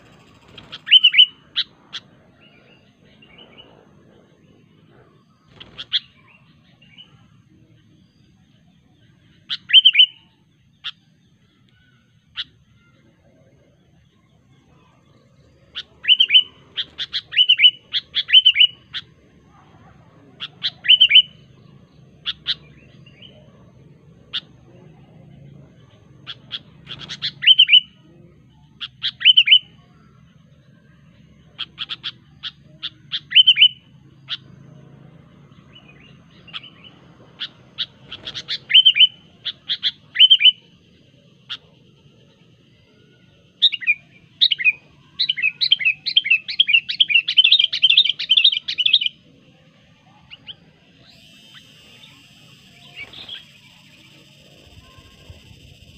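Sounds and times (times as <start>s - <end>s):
bulbul singing: 0.0s - 55.9s
faint low hum: 0.0s - 55.9s.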